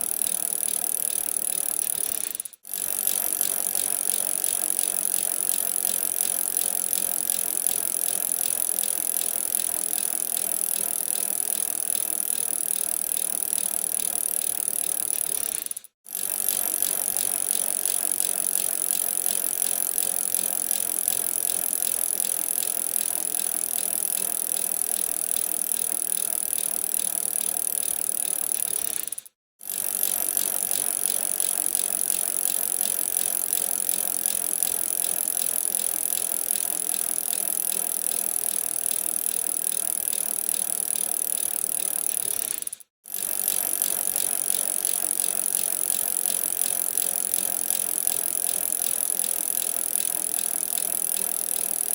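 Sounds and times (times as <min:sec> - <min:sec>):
bicycle rattling: 0:00.0 - 0:51.9.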